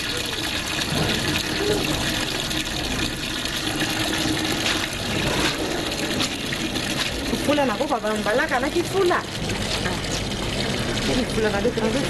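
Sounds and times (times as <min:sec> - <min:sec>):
water running into plastic bucket: 0:00.0 - 0:12.0.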